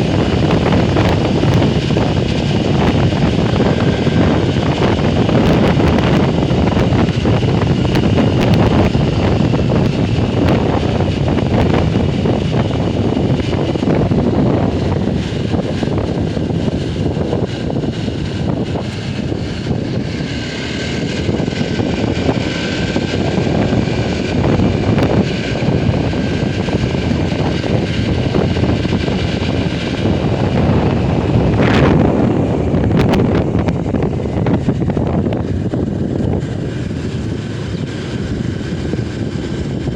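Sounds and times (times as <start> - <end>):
motorcycle running: 0.0 - 39.9
wind noise on microphone: 0.0 - 39.9.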